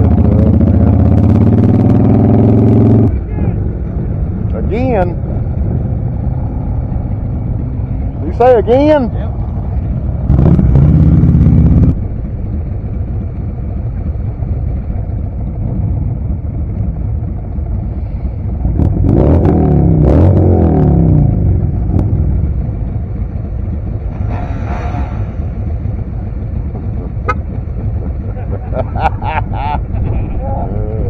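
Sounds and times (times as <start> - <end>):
motorcycle engine revving: 0.0 - 3.2, 4.6 - 30.0
motorcycle engines rumbling: 0.0 - 31.0.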